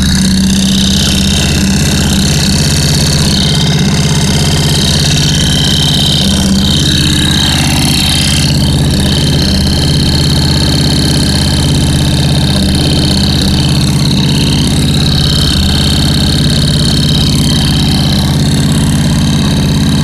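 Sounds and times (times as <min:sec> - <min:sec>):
engine idling: 0:00.0 - 0:20.0
high-pitched whine: 0:00.0 - 0:20.0.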